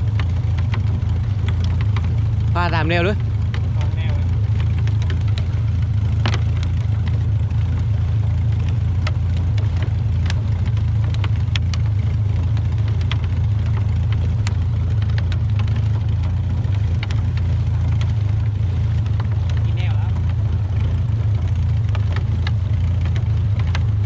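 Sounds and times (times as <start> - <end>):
boat engine running at low speed: 0.0 - 24.0
light clicks and knocks: 0.0 - 24.0.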